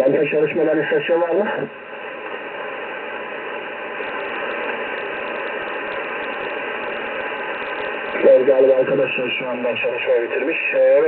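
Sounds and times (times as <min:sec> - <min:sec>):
radio speaker hissing: 0:00.0 - 0:11.0
faint rapid crackle: 0:01.6 - 0:10.8.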